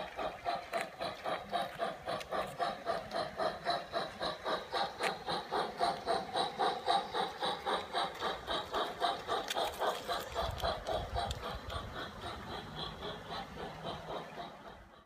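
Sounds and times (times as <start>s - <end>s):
model train steam chuffs: 0.0s - 15.0s.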